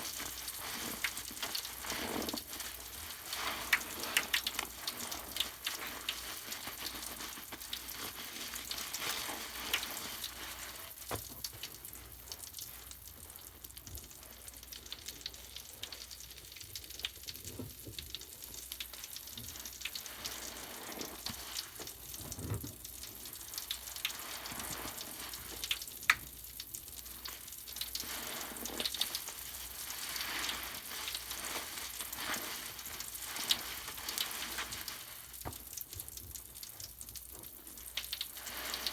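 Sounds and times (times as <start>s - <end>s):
foam bubbles fizzing and crackling: 0.0s - 38.9s.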